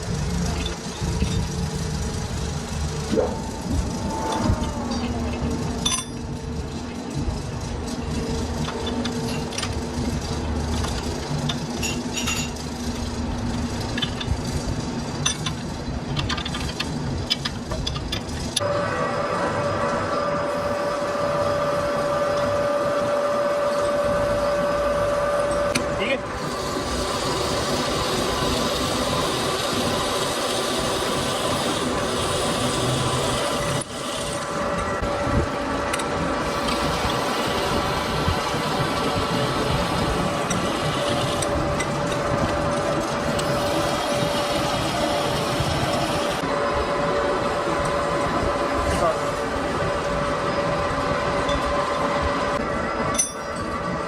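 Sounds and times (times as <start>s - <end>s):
workshop machinery humming: 0.0s - 54.0s.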